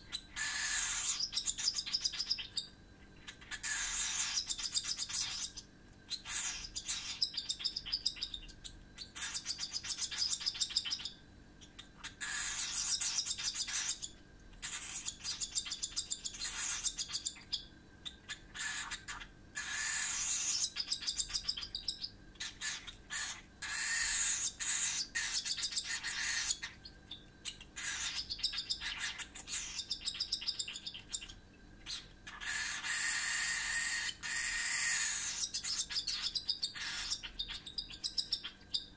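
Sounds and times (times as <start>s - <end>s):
bird chick raspy chirping: 0.0s - 38.9s.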